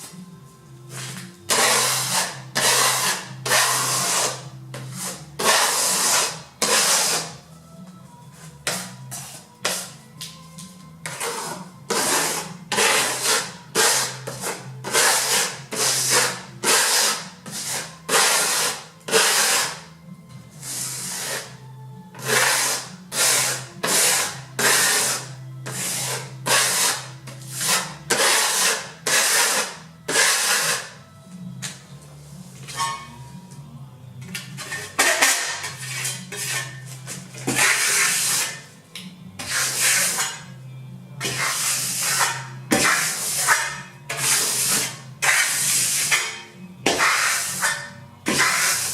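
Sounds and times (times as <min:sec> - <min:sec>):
quiet background music: 0:00.0 - 0:48.9
trowel scraping plaster on wall: 0:00.9 - 0:07.4, 0:08.6 - 0:10.0, 0:11.0 - 0:19.9, 0:20.6 - 0:21.6, 0:22.2 - 0:31.0, 0:34.5 - 0:38.7, 0:39.4 - 0:40.5, 0:41.2 - 0:48.9.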